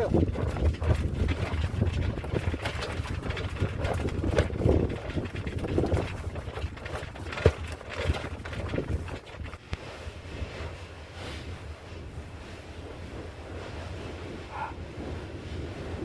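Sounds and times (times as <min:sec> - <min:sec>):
sail knocks and rustles: 0:00.0 - 0:16.0
wind buffeting microphone: 0:00.0 - 0:16.0.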